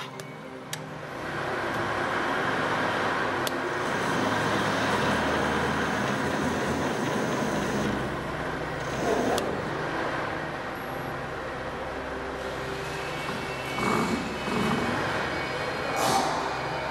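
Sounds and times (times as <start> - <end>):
lathe running: 1.1 - 15.8.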